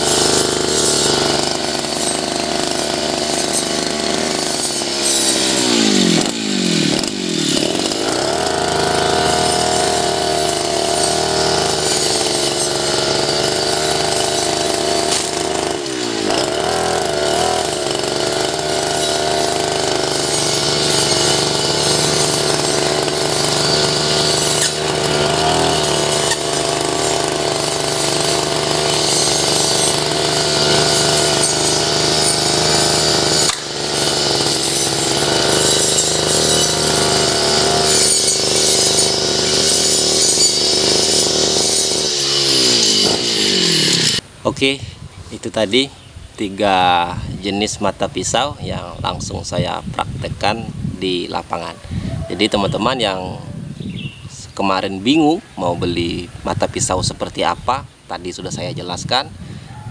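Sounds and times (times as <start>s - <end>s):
brush cutter engine revving: 0.0s - 44.8s, 55.7s - 59.7s.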